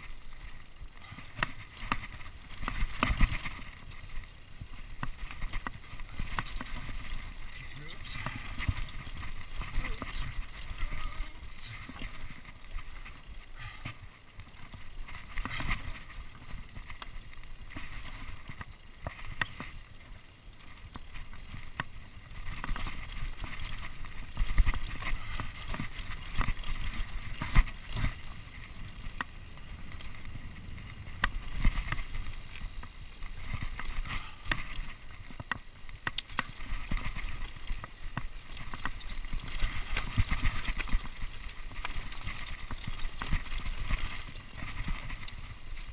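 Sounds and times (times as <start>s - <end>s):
bike rattling over bumps: 0.0s - 45.9s
bike tyres rolling over dirt: 0.0s - 45.9s.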